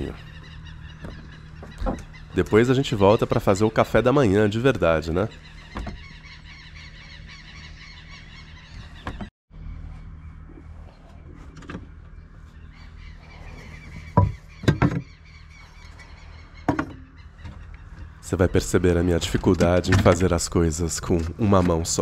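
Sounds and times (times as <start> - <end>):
birds calling: 0.0 - 22.0
steady low hum: 0.0 - 22.0.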